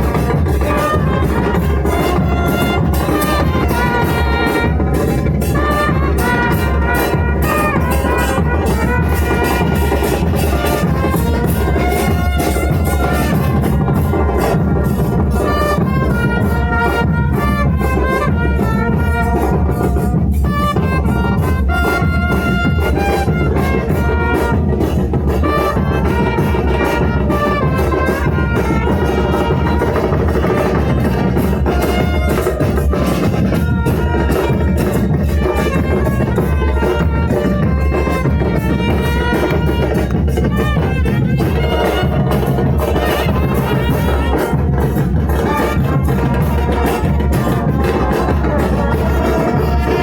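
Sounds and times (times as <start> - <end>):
music with brass and drums: 0.0 - 50.0.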